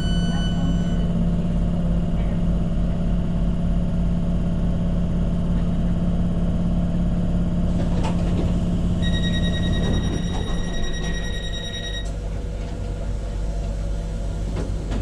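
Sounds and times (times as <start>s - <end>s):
train electric hum: 0.0s - 15.0s.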